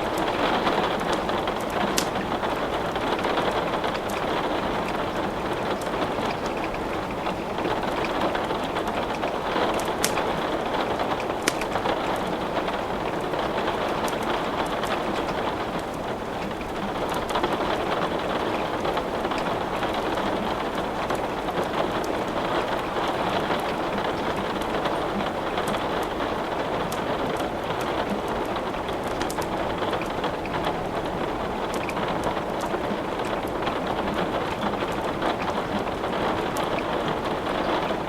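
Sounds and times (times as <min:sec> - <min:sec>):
steady rain: 0:00.0 - 0:38.0
wood crackling in a fireplace: 0:00.0 - 0:38.0.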